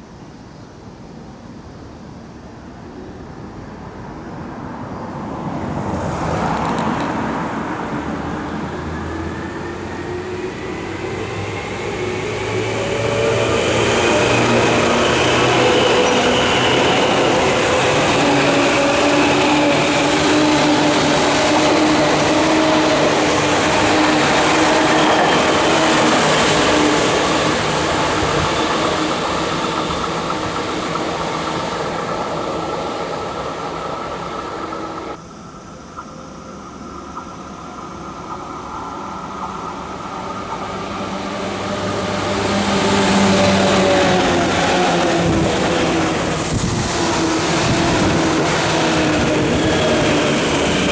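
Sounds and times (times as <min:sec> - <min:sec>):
train rolling noise: 0:00.0 - 0:50.9
electric train motors whining: 0:08.6 - 0:50.9.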